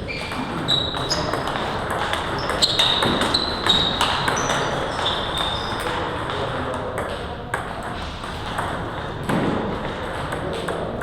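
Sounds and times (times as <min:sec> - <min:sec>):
table tennis balls clicking: 0:00.2 - 0:11.0.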